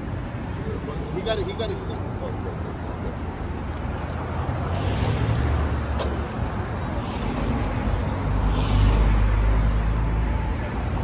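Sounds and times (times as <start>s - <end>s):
rumble of cars: 0.0s - 11.0s.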